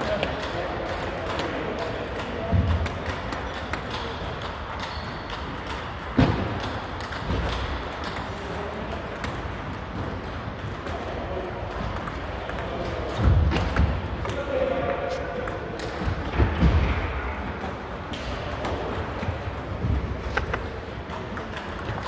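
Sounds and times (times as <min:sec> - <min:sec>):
table tennis balls clicking: 0:00.0 - 0:14.5, 0:17.3 - 0:22.0.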